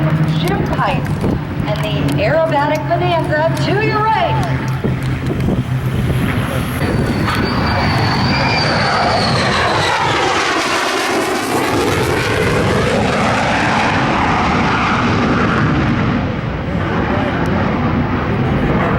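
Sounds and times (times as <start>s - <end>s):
airplane passing low: 0.0s - 18.9s
high engine whine: 0.0s - 18.9s.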